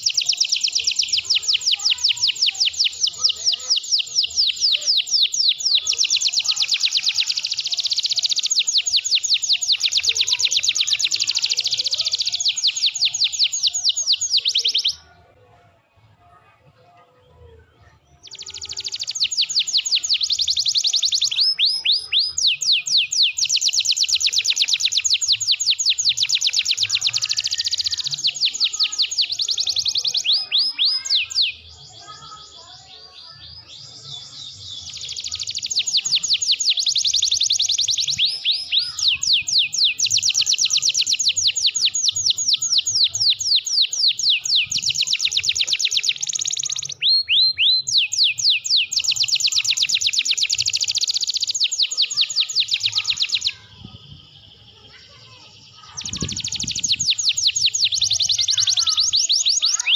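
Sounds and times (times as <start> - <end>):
canary singing trills: 0.0 - 15.2, 17.8 - 59.9.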